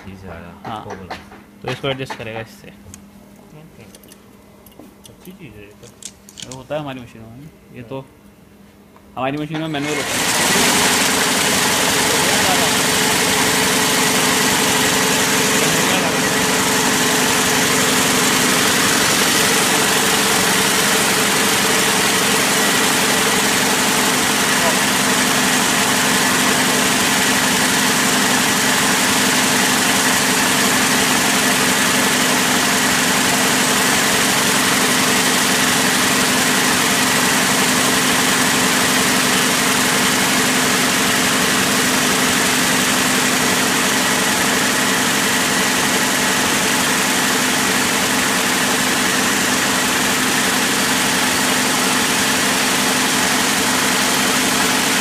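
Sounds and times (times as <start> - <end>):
braiding machine running: 9.5 - 55.0.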